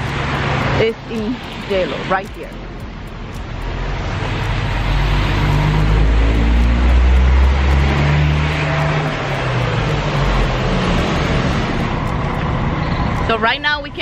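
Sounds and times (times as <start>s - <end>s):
steady traffic noise: 0.0s - 14.0s
vehicle passing on wet road: 0.0s - 14.0s.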